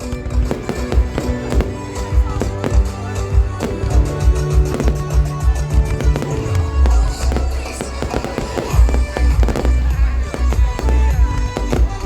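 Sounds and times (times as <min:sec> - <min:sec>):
fireworks bursting: 0:00.0 - 0:12.0
music with thumping beat: 0:00.0 - 0:12.0.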